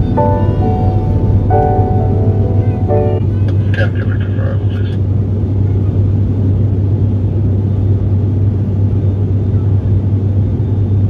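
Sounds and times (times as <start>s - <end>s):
propeller drone and airflow rush: 0.0s - 11.0s.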